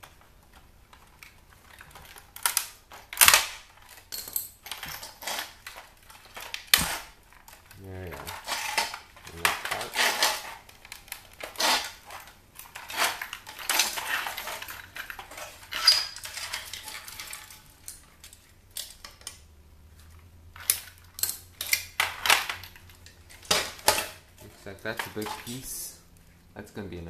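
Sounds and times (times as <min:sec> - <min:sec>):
metal and plastic parts clattering: 0:00.0 - 0:26.0.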